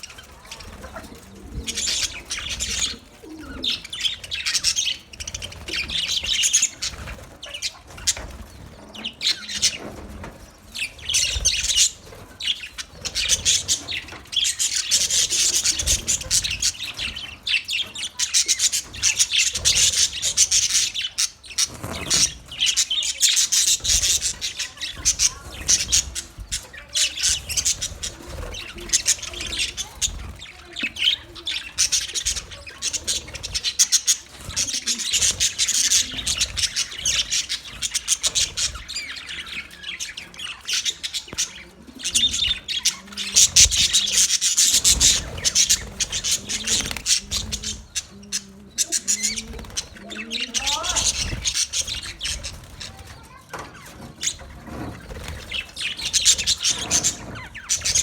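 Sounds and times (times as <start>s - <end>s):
budgerigars chirping and chattering: 0.0s - 58.0s.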